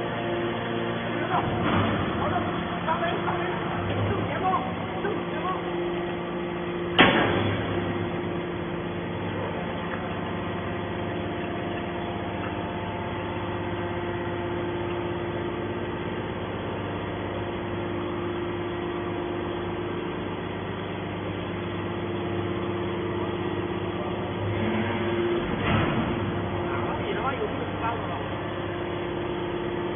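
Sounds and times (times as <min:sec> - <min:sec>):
hydraulic pump motor humming: 0:00.0 - 0:29.9.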